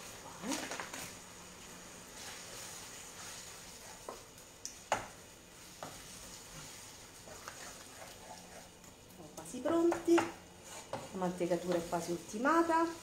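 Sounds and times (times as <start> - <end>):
risotto sizzling in a frying pan: 0.0 - 13.0.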